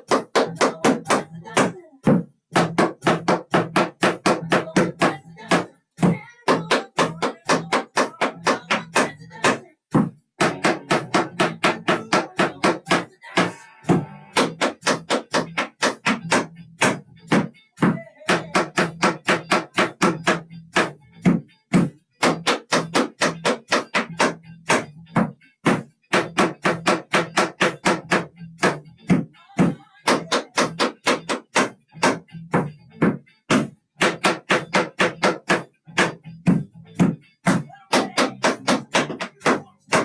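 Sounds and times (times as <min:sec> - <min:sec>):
tap shoes on wooden board: 0:00.0 - 0:13.5, 0:14.4 - 0:40.0.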